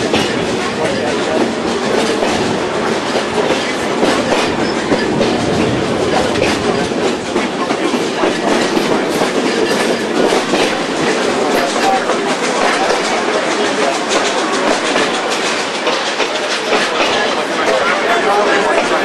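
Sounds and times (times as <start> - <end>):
train wheels rattling: 0.0 - 19.0
wheels clacking over rail joints: 0.0 - 19.0.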